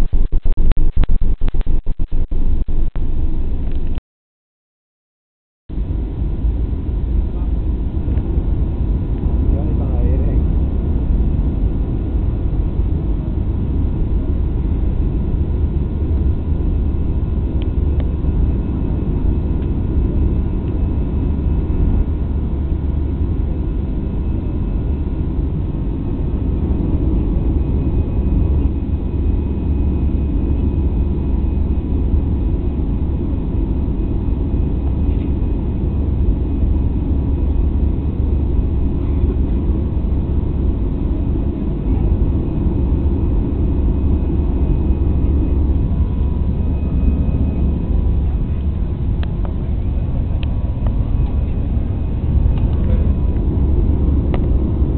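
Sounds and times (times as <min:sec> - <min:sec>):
faint steady whine: 0:05.7 - 0:54.9
jet engines roaring: 0:05.7 - 0:54.9.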